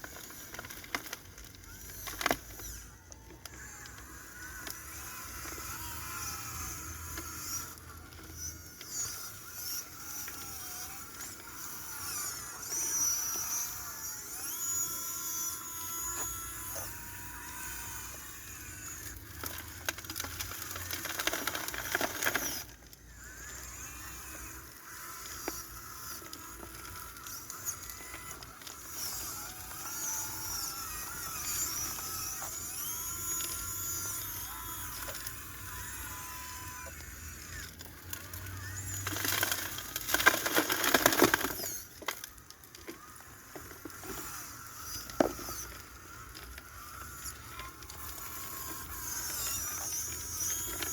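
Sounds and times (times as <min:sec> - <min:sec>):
small electric motors whining: 0:00.0 - 0:50.9
gritty rattling: 0:03.6 - 0:50.9.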